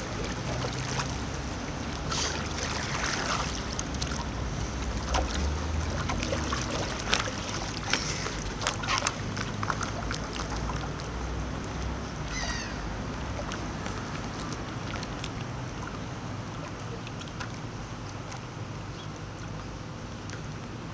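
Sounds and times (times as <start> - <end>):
paddle splashing in water: 0.0 - 20.7.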